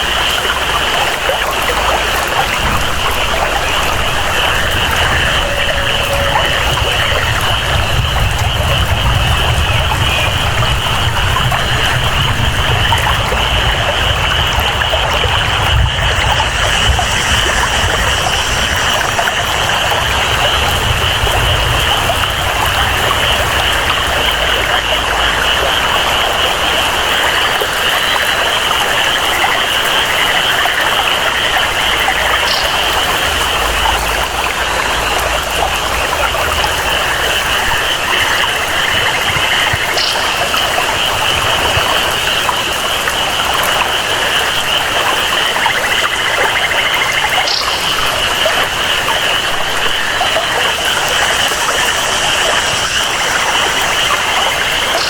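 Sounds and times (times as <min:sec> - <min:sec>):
flowing water: 0:00.0 - 0:55.0
frogs or insects chorus: 0:00.0 - 0:55.0
steady rain: 0:00.0 - 0:55.0.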